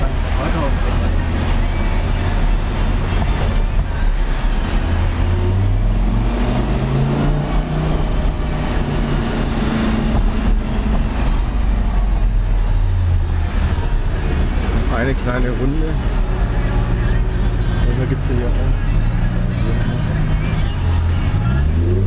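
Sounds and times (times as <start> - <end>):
car engine from inside cabin: 0.0 - 22.0
road noise: 0.0 - 22.0.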